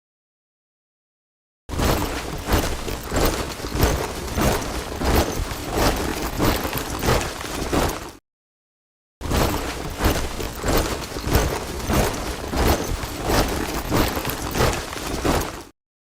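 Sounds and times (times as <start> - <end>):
boots marching in step: 1.7 - 8.2, 9.3 - 15.7.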